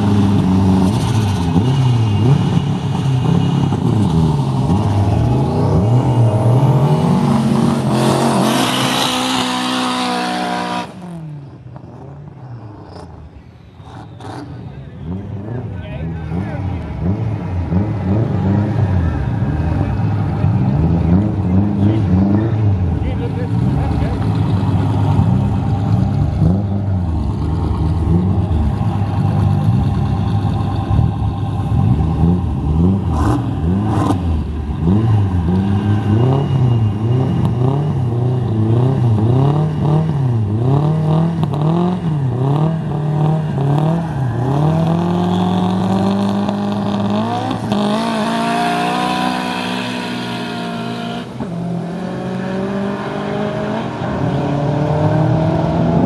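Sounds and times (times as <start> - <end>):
cars accelerating away: 0.0 - 11.6, 12.4 - 56.0
drag car engines revving: 0.0 - 56.0.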